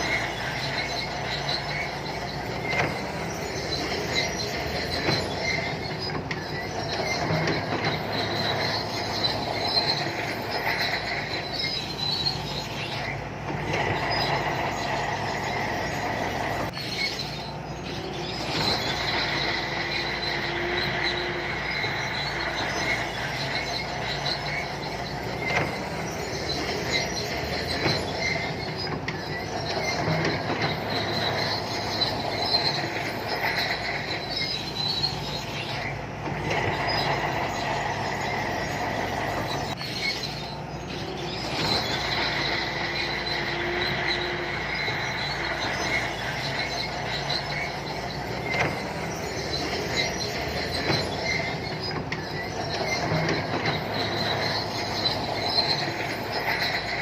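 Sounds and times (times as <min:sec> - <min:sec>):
bulldozer diesel engine running: 0:00.0 - 0:57.0
steel tracks squealing: 0:00.0 - 0:57.0.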